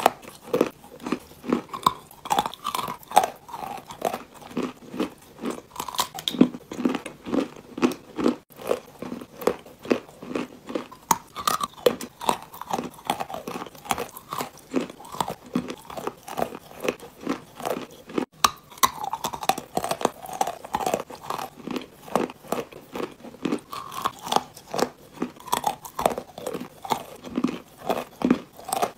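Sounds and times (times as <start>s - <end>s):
clay being chewed crunchily: 0.0s - 28.9s.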